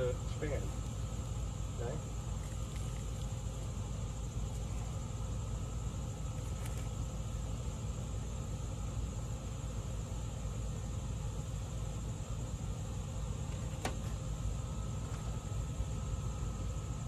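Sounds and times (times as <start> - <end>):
faint high whines: 0.0 - 17.0
low machine hum and rumble: 0.0 - 17.0.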